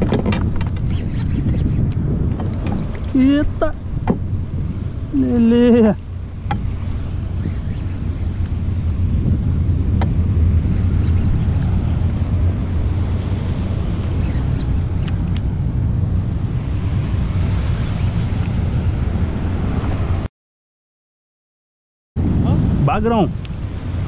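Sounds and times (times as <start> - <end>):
wind buffeting microphone: 0.0 - 20.3, 22.2 - 24.0.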